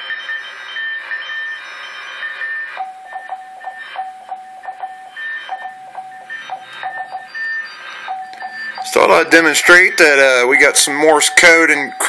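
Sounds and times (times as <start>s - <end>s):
high morse code tone: 0.0s - 12.0s
low morse code tone: 0.0s - 12.0s.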